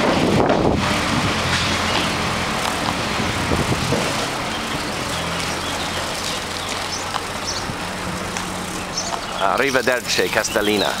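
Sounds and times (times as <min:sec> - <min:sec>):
vehicle engine humming: 0:00.0 - 0:11.0
wind and road noise: 0:00.0 - 0:11.0.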